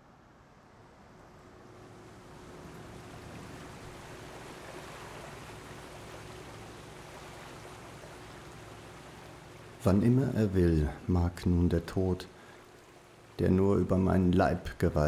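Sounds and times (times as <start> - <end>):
sea water rushing: 0.9 - 15.0.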